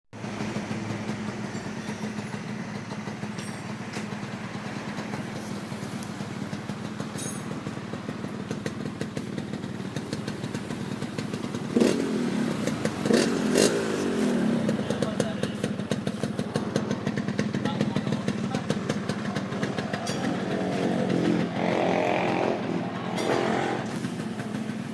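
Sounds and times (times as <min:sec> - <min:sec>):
two-stroke engine idling: 0:00.2 - 0:24.9.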